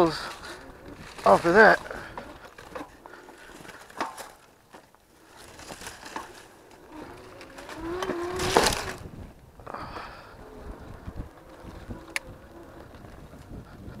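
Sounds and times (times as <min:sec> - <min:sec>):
bike rattling: 0:00.0 - 0:14.0
tyres crunching over sandy trail: 0:00.0 - 0:14.0.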